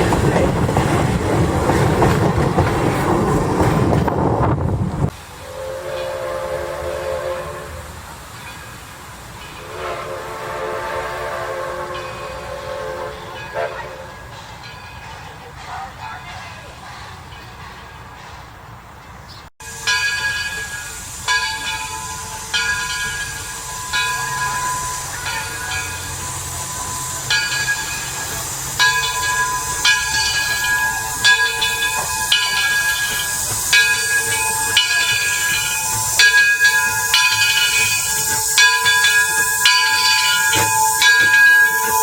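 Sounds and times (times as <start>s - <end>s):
steam hissing: 0.0s - 18.5s, 19.6s - 42.0s
locomotive bell ringing: 5.8s - 10.8s, 11.6s - 42.0s.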